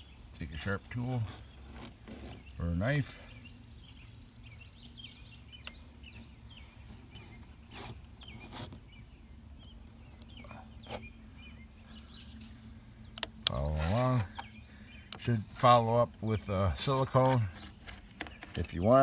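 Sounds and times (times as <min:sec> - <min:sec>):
low steady hum: 0:00.0 - 0:19.0
small birds chirping: 0:00.0 - 0:19.0.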